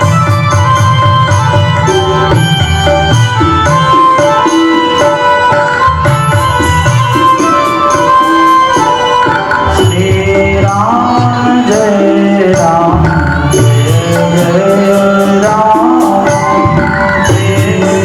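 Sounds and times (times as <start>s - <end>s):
devotional music melody: 0.0s - 18.0s
hand drum beat: 0.0s - 18.0s.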